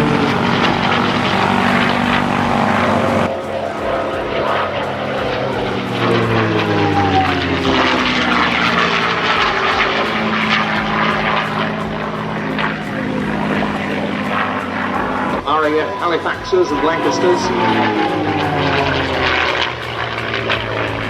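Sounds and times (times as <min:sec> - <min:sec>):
propeller plane engine flying past: 0:00.0 - 0:21.0.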